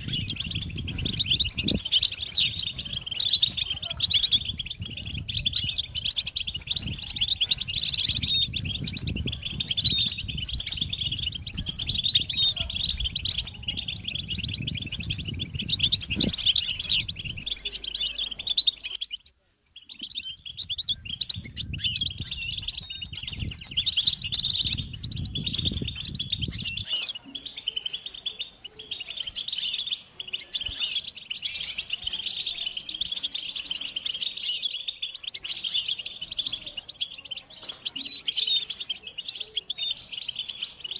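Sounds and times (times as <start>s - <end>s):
finches chattering and singing: 0.0s - 40.9s.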